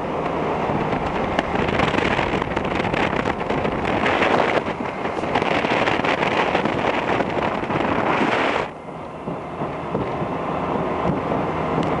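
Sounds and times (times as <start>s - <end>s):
boat engine rumble: 0.0s - 12.0s
water spray rushing along hull: 0.0s - 12.0s
wind buffeting microphone: 0.0s - 12.0s.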